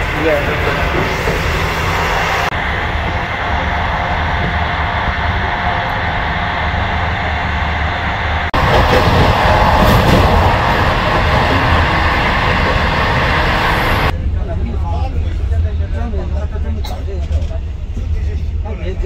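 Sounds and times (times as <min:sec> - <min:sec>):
train running noise inside carriage: 0:00.0 - 0:19.0.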